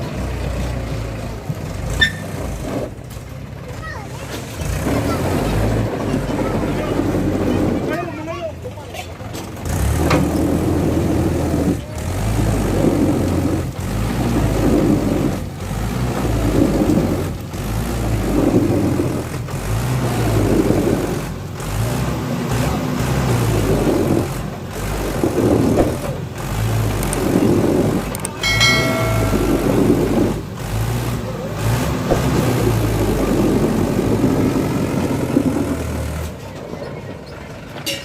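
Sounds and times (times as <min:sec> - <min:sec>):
tractor diesel engine running hard: 0:00.0 - 0:38.0.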